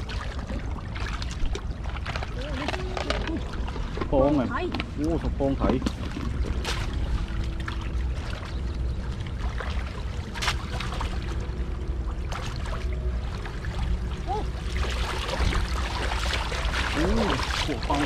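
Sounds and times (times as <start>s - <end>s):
steady low rumble: 0.0s - 18.0s
water sloshing and splashing: 0.0s - 18.0s.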